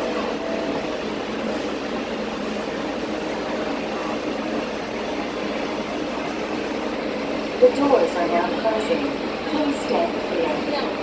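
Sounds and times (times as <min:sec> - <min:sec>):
tram car hum and air rush: 0:00.0 - 0:11.0.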